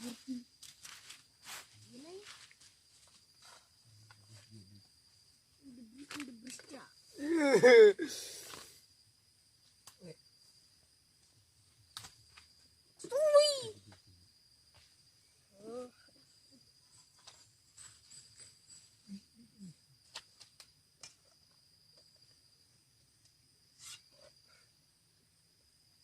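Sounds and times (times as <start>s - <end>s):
crickets droning: 0.0s - 26.0s.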